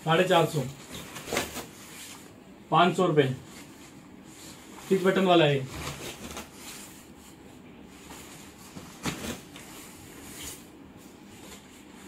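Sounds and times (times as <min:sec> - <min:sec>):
jacket fabric rustling: 0:00.1 - 0:02.4, 0:03.2 - 0:12.0.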